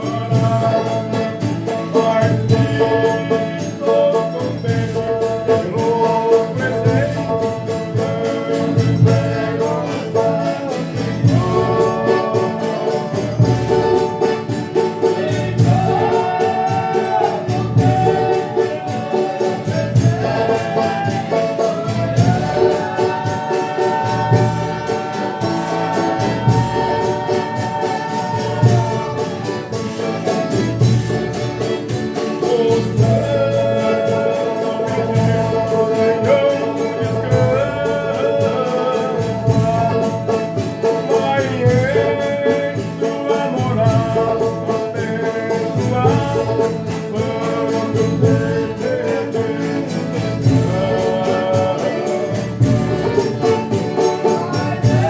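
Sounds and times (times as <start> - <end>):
group singing long notes: 0.0 - 55.0
tambourine jingles: 0.0 - 55.0.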